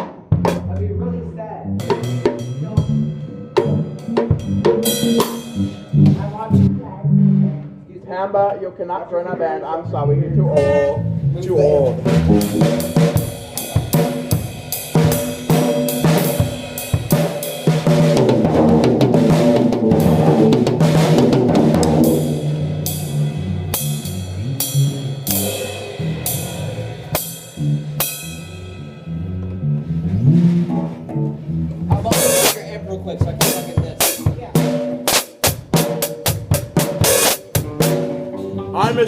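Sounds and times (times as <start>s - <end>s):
band playing: 0.0s - 7.9s, 10.0s - 39.0s
drum kit beat: 0.0s - 7.9s, 10.4s - 39.0s
low amplified held notes: 0.4s - 39.0s.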